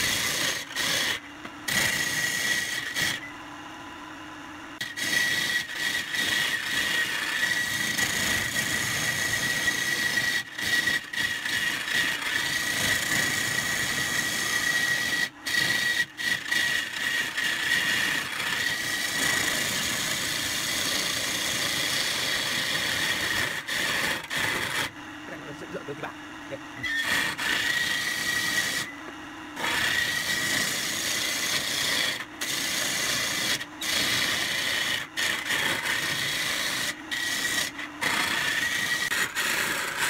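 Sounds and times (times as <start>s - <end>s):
wood lathe high whine: 0.0s - 40.0s.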